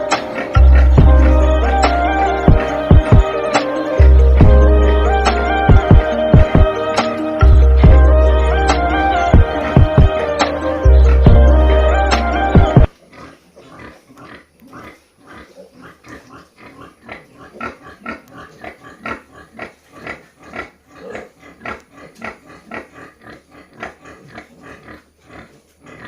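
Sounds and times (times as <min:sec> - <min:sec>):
piglets grunting: 0:00.0 - 0:26.0.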